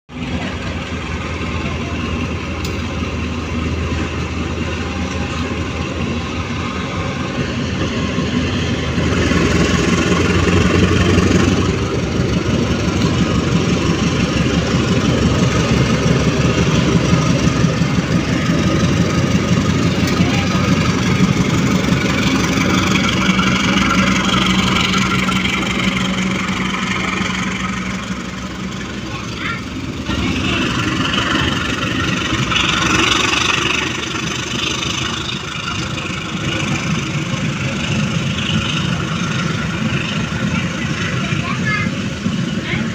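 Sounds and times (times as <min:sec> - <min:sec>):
locomotive diesel engine throbbing: 0:00.1 - 0:42.9.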